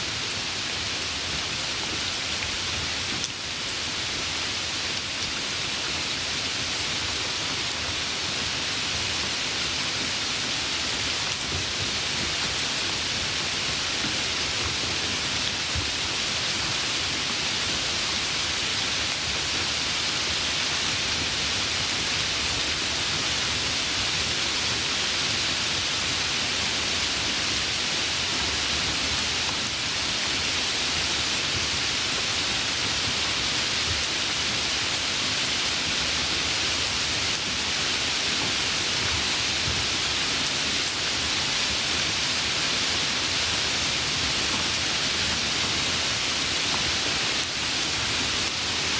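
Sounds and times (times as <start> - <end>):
light rain falling: 0.0 - 48.9.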